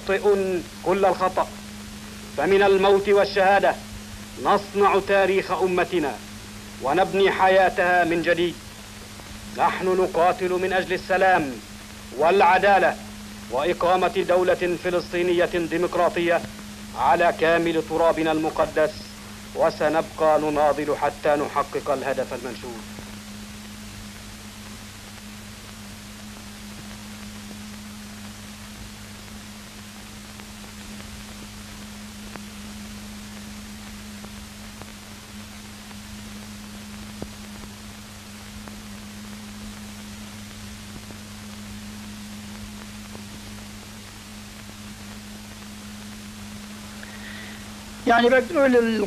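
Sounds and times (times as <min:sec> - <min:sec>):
film soundtrack hiss and hum: 0:00.0 - 0:49.0.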